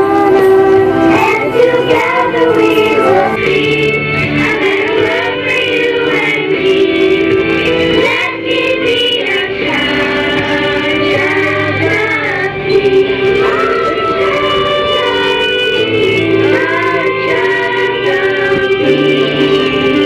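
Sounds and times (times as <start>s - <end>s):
children's choir singing: 0.0s - 19.2s.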